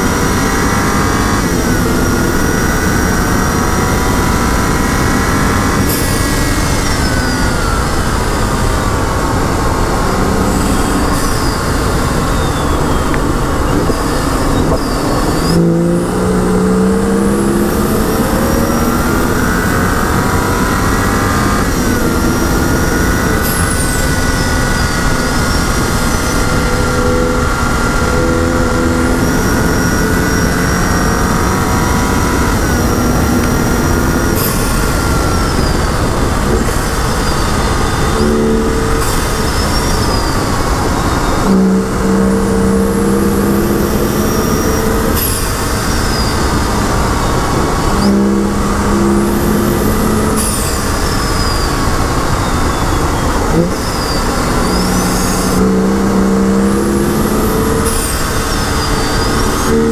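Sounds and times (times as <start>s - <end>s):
car engine running hard: 0.0s - 59.9s
wind noise: 0.0s - 59.9s.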